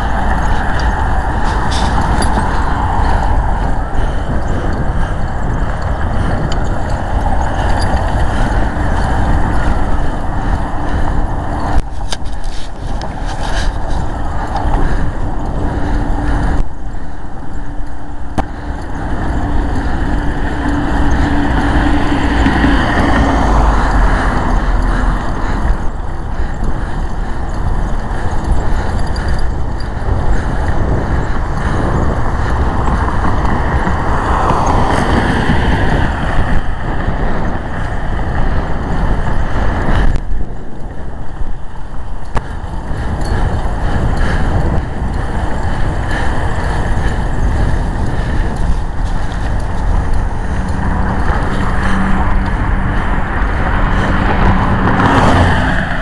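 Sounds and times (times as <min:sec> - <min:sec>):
vehicle rushing noise: 0:00.0 - 0:56.0.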